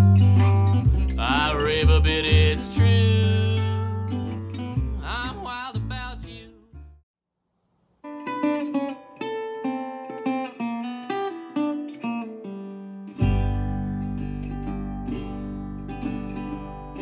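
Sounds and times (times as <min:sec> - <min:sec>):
guitar music: 0:00.0 - 0:07.0, 0:08.1 - 0:17.0.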